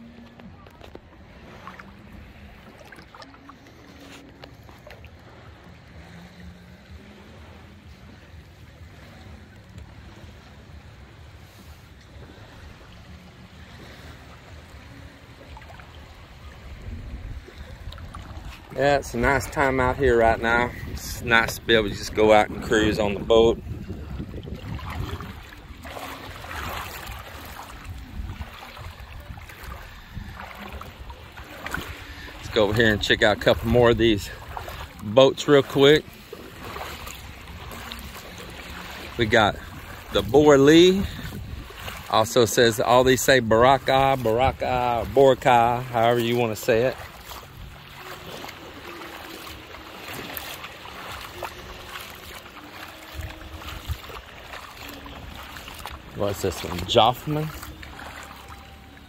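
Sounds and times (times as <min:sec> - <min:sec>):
sea water splashing around legs: 0:00.0 - 0:59.0
wind rumble on microphone: 0:00.0 - 0:59.0.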